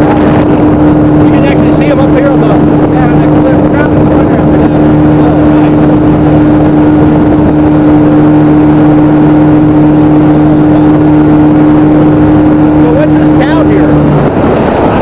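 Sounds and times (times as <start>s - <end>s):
motorboat engine humming: 0.0s - 15.0s
rushing water: 0.0s - 15.0s
wind: 0.0s - 15.0s.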